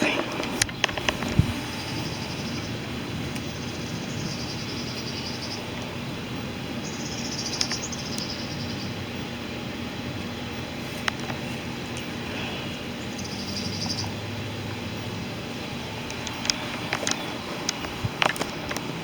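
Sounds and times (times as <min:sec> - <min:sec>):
steady background hiss: 0:00.0 - 0:19.0
insect trills: 0:00.1 - 0:09.9, 0:10.5 - 0:19.0.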